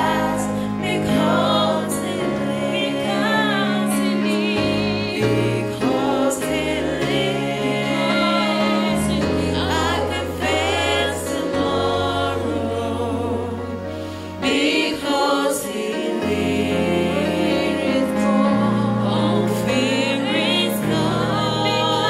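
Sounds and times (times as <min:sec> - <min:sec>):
electronic keyboard chords: 0:00.0 - 0:22.0
women singing with vibrato: 0:00.0 - 0:22.0.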